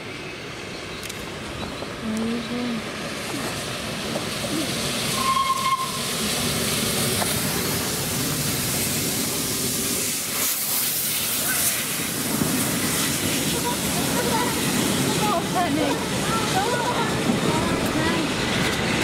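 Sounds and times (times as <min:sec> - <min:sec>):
steam locomotive hissing: 0:02.8 - 0:19.0.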